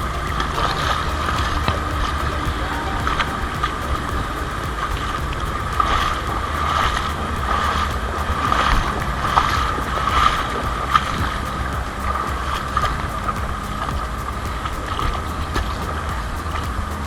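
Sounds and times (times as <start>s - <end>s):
creek running over rocks: 0.0s - 17.0s
faint ticks and splashes: 0.0s - 17.0s.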